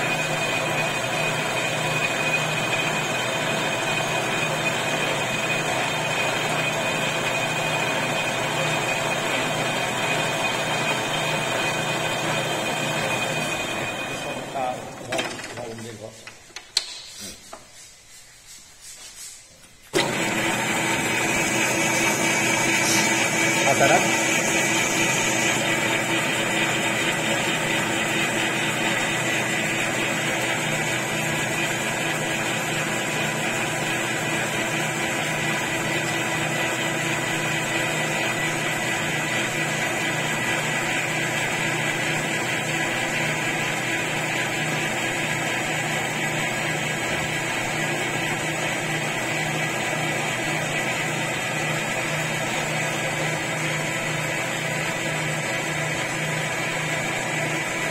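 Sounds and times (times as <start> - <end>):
lathe running: 0.0 - 16.6, 19.9 - 57.9.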